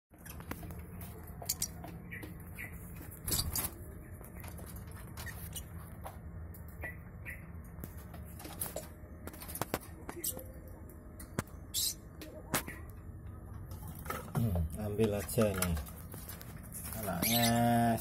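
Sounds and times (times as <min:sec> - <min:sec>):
birds clicking and scratching: 0:00.1 - 0:18.0.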